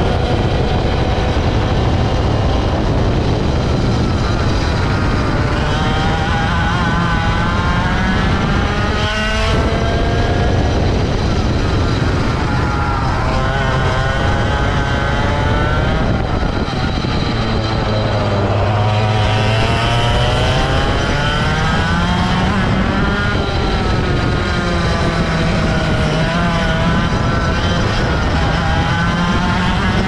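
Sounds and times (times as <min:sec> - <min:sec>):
kart engine revving: 0:00.0 - 0:30.0
wind and road noise: 0:00.0 - 0:30.0.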